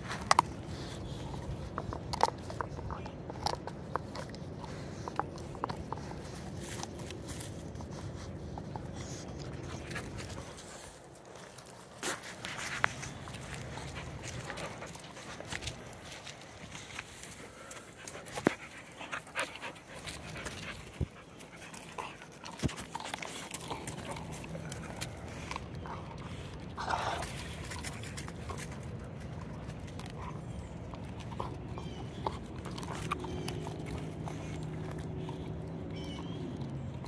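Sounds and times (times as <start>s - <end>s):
dog gnawing wood: 0.0s - 37.0s
dog panting: 0.0s - 37.0s.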